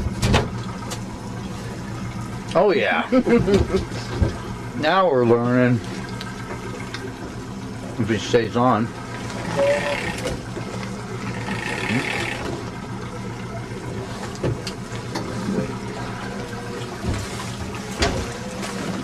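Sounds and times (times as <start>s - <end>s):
outboard motor running: 0.0s - 19.0s
water slapping hull: 0.0s - 19.0s.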